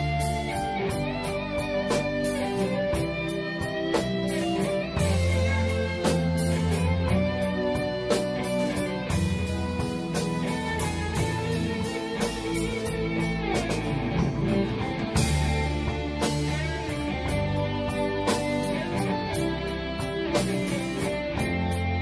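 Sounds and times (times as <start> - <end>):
bass guitar: 0.0 - 22.0
drums: 0.0 - 22.0
electric guitars: 0.0 - 22.0.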